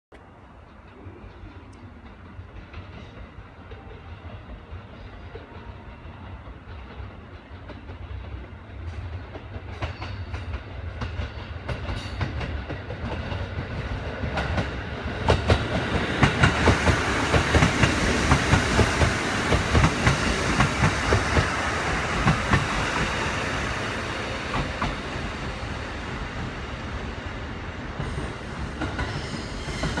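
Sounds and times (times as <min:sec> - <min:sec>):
train wheels clattering: 0:00.6 - 0:25.7, 0:27.9 - 0:30.0.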